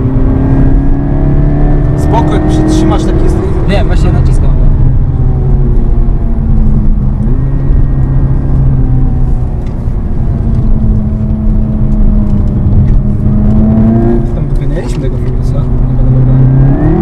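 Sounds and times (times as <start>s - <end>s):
car engine from inside cabin: 0.0s - 17.0s
road and tyre rumble: 0.0s - 17.0s.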